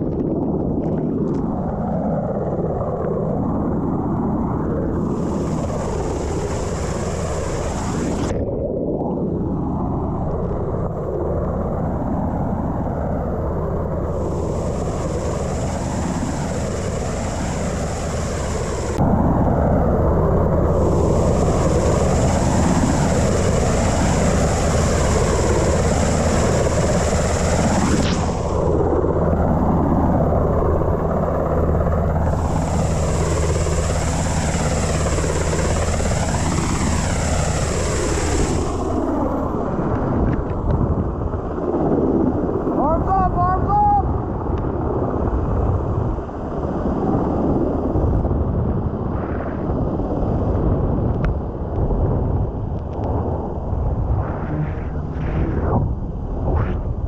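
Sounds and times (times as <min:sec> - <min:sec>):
helicopter rotor drone: 0:00.0 - 0:57.0
high turbine whine: 0:00.0 - 0:57.0.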